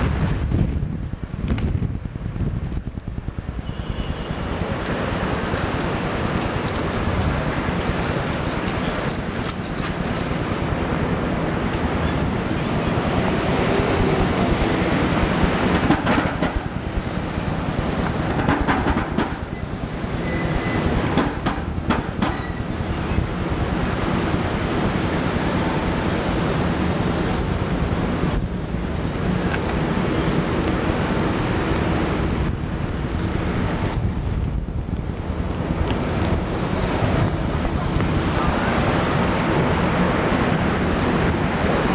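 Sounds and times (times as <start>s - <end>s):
city street traffic: 0.0s - 41.9s.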